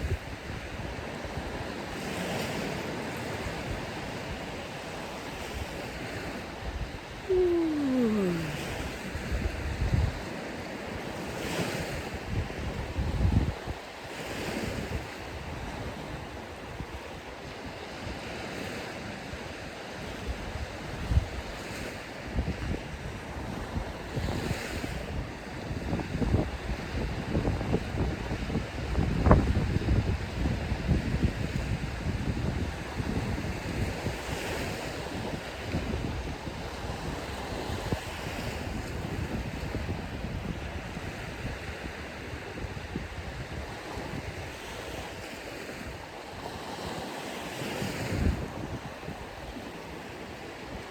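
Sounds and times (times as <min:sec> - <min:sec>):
ocean surf on sandy beach: 0:00.0 - 0:20.0, 0:23.0 - 0:50.9.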